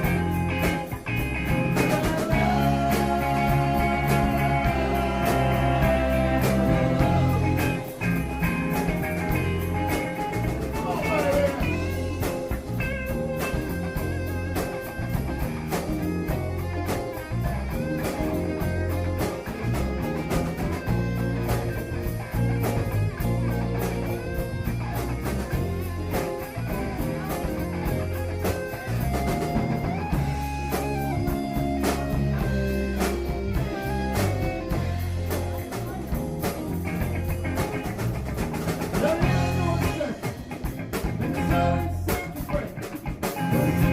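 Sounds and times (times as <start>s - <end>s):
lead guitar line: 0.0s - 43.9s
rock band playing: 0.0s - 43.9s.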